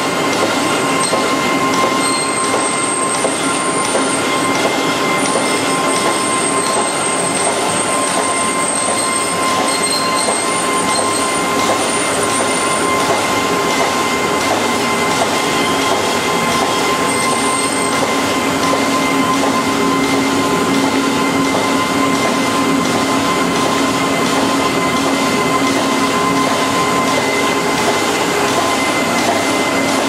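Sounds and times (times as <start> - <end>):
high machine whine: 0.0 - 30.0
machine clattering: 0.0 - 30.0.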